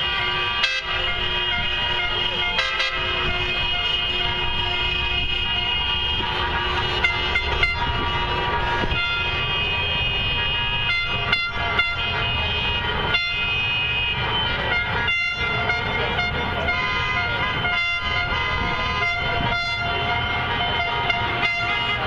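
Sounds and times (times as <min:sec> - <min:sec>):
car horns honking: 0:00.0 - 0:22.0
passing traffic rumble: 0:00.0 - 0:22.0.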